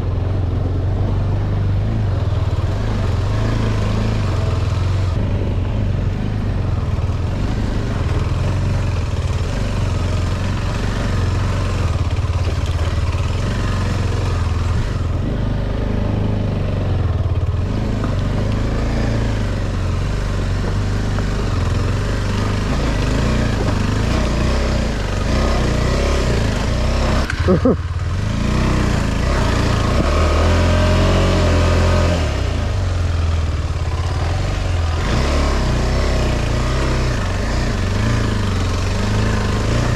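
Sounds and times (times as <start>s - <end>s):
motorcycle engine revving: 0.0s - 39.9s
wind and ground noise: 0.0s - 39.9s.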